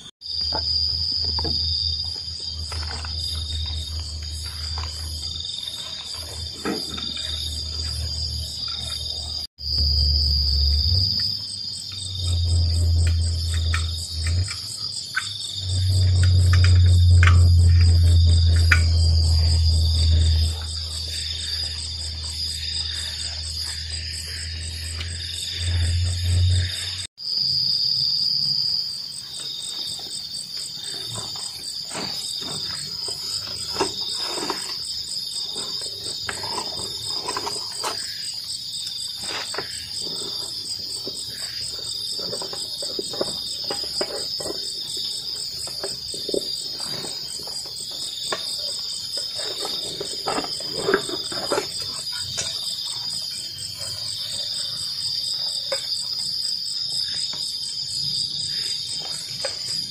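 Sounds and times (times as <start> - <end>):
night insects chirring: 0.0 - 59.9.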